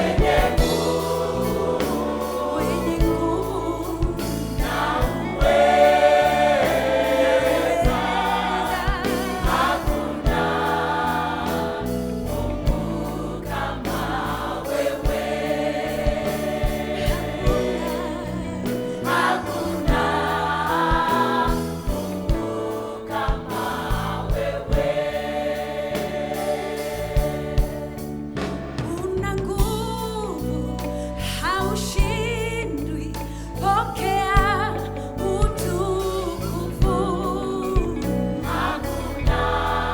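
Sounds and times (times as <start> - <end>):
choir singing: 0.0 - 28.9, 34.7 - 39.9
steady drum beat: 0.0 - 30.2, 36.7 - 39.9
gospel band with bass: 0.0 - 39.9.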